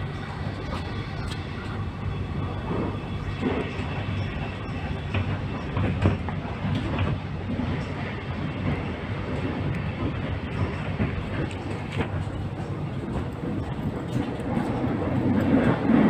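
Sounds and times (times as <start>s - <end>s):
train rumble inside carriage: 0.0s - 16.0s
wheels clacking over rails: 2.6s - 16.0s.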